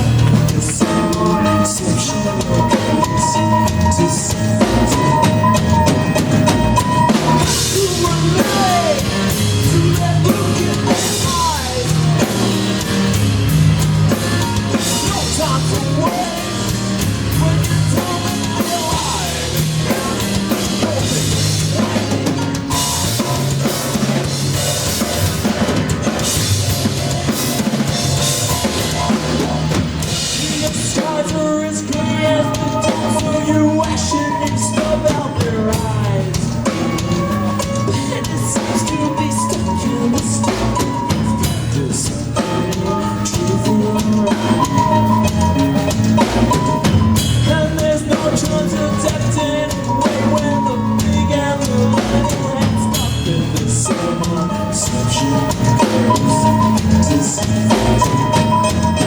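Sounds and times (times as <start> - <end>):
bass line: 0.0 - 59.0
drum kit with cymbals: 0.0 - 59.0
keyboard with sliding pitches: 0.0 - 59.0.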